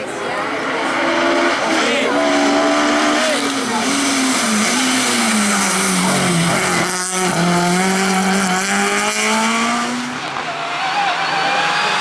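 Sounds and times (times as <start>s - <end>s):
race car engine at full throttle: 0.0s - 12.0s
rally car engine: 0.0s - 12.0s.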